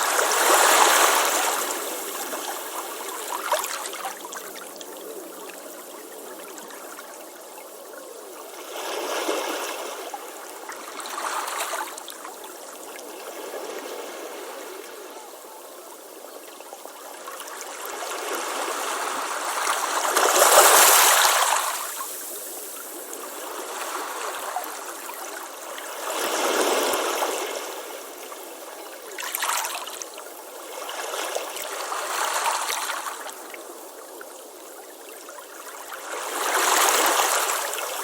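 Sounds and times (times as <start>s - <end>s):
ocean waves washing onto beach: 0.0s - 7.0s, 8.4s - 38.0s.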